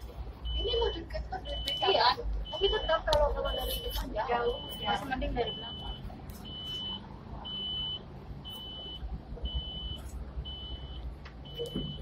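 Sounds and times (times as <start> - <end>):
traffic rumble: 0.0 - 12.0
electronic warning beeper: 0.4 - 12.0.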